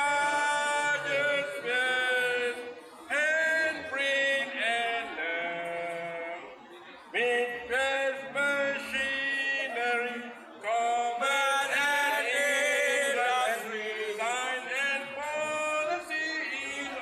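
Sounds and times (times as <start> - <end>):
men singing into a microphone: 0.0 - 6.5, 7.2 - 17.0.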